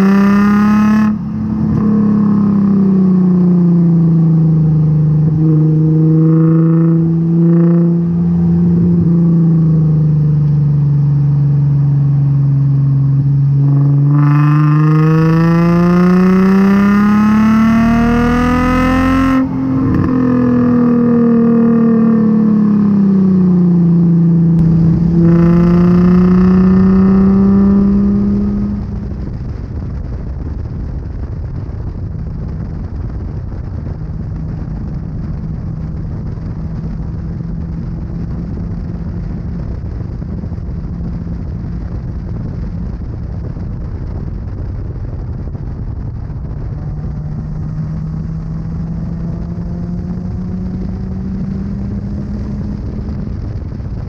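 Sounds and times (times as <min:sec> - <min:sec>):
car engine revving and droning: 0:00.0 - 0:54.0
tyre and road noise: 0:00.0 - 0:54.0.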